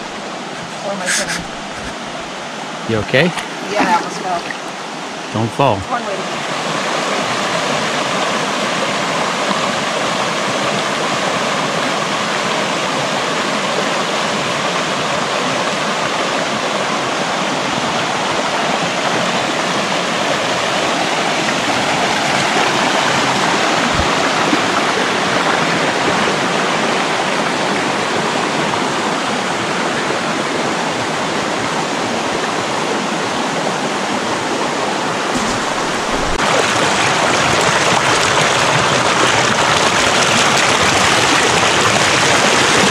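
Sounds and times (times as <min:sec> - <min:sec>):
creek water rushing over boulders: 0:00.0 - 0:42.9.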